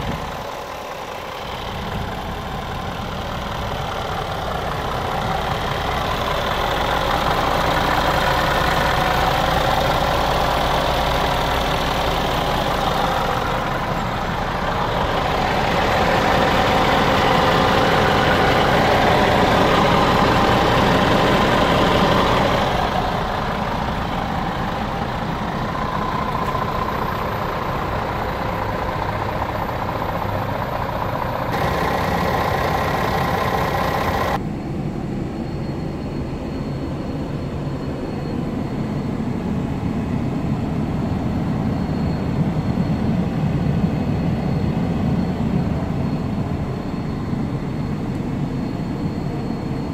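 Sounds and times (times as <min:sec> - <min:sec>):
truck diesel engine idling: 0:00.0 - 0:49.9.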